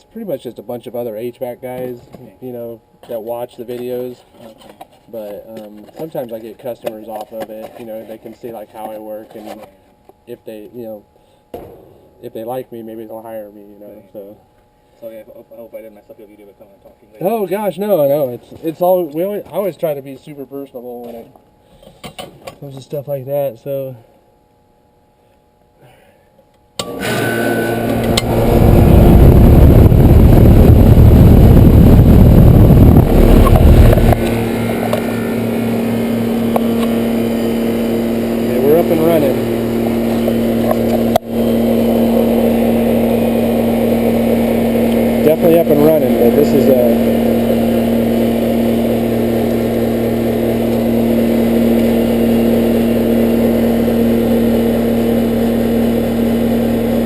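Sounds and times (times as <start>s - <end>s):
compressor humming: 0.0s - 57.0s
condenser fan running: 0.0s - 57.0s.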